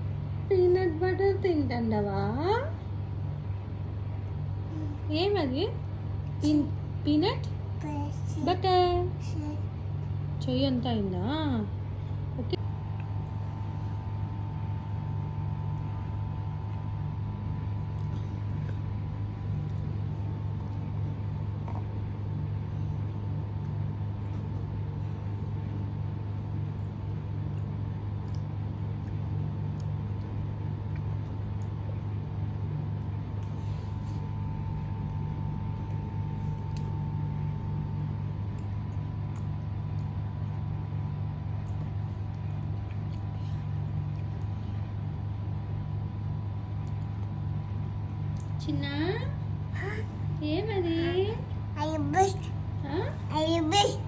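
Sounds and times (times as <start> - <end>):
low mechanical hum: 0.0 - 54.0
thin steady whine: 0.0 - 54.0.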